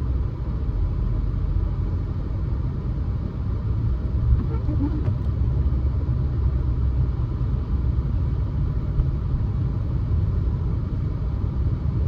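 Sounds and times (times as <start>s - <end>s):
car driving on snow from inside: 0.0s - 12.0s.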